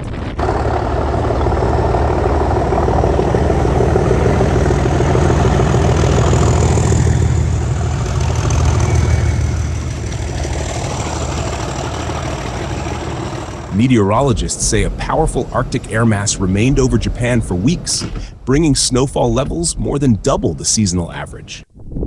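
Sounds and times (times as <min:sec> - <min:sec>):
engine low rumble: 0:00.4 - 0:21.5.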